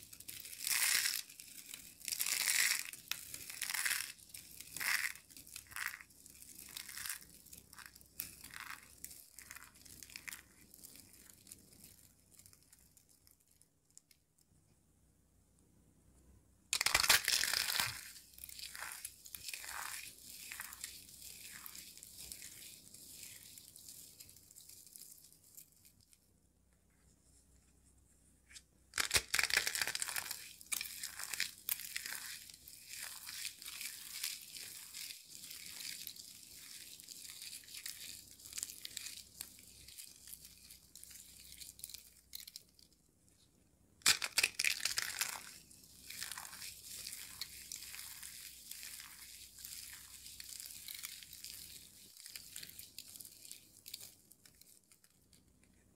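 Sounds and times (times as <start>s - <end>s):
foil and flakes crinkling in hands: 0.0s - 13.6s, 16.8s - 26.2s, 29.0s - 42.9s, 44.0s - 55.4s.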